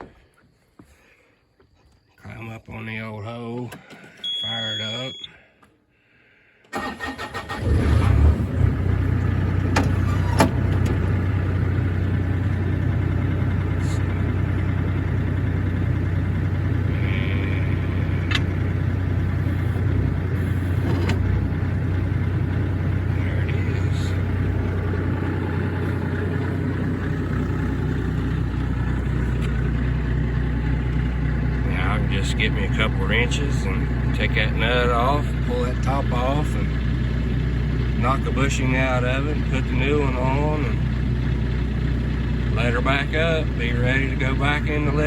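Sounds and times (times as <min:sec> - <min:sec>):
diesel engine starting and running: 0:03.0 - 0:45.0.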